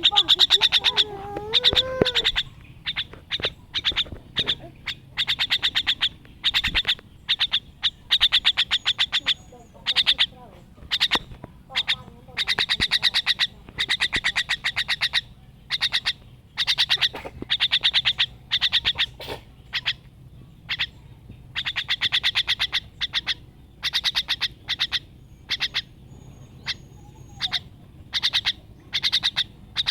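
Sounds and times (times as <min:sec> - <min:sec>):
bird calling in rattling bursts: 0:00.0 - 0:29.9.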